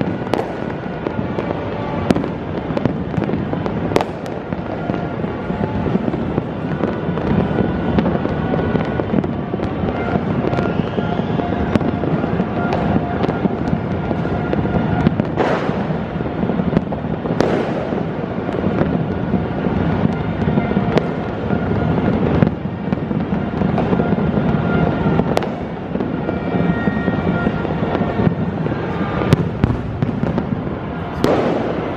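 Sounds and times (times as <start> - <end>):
fireworks crackling: 0.0 - 31.9
loud firework bangs: 0.0 - 31.9
rising firework whistle: 0.0 - 31.9.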